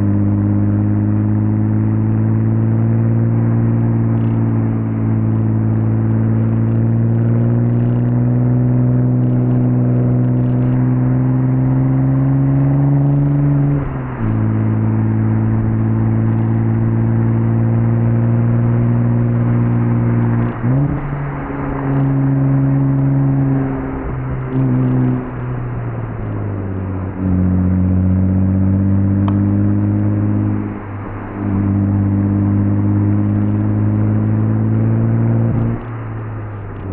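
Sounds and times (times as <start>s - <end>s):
car engine under load: 0.0s - 36.9s.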